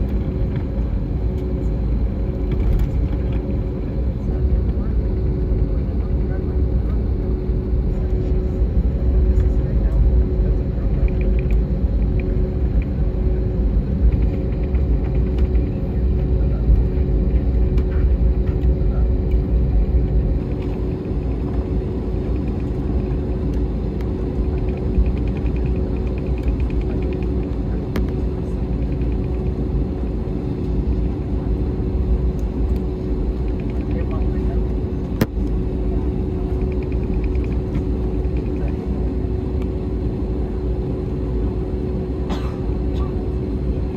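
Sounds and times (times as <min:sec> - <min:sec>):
airliner cabin rumble taxiing: 0:00.0 - 0:43.9
steady hum: 0:00.0 - 0:43.9.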